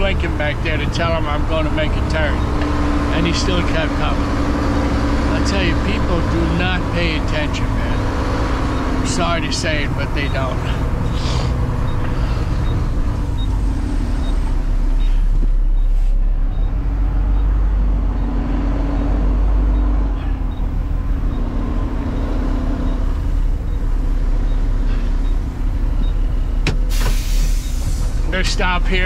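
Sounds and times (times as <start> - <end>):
truck engine heard from cab: 0.0 - 29.0.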